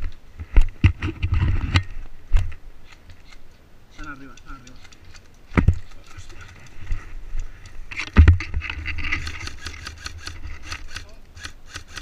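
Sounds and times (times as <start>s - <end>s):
branches scraping: 0.0s - 12.0s.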